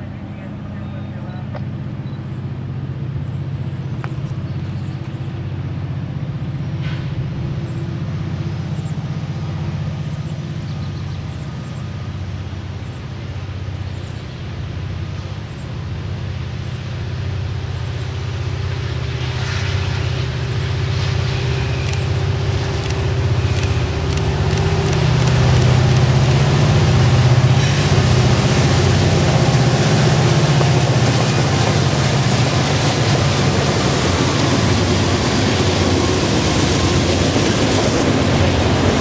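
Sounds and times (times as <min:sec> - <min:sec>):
diesel locomotive engine humming: 0:00.0 - 0:39.0.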